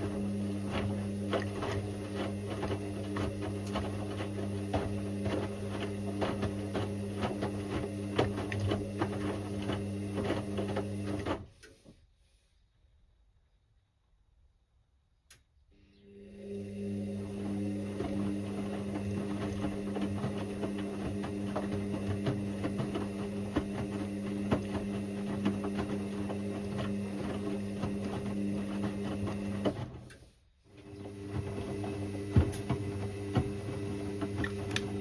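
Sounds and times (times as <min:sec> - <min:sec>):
washing machine motor humming: 0:00.0 - 0:11.5, 0:16.0 - 0:35.0.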